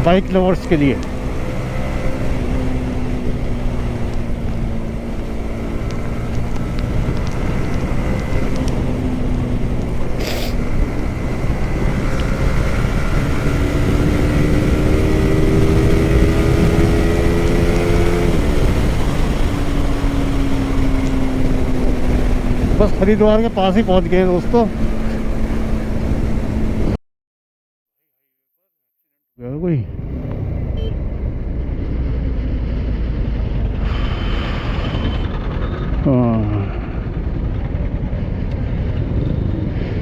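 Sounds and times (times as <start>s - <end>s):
motorcycle engine running: 0.0s - 27.0s, 30.2s - 40.0s
wind and road noise: 0.0s - 27.0s, 29.6s - 40.0s.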